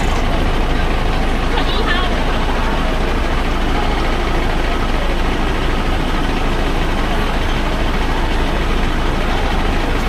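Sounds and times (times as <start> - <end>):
traffic noise: 0.0 - 10.0
vehicle engine rumbling: 0.0 - 10.0.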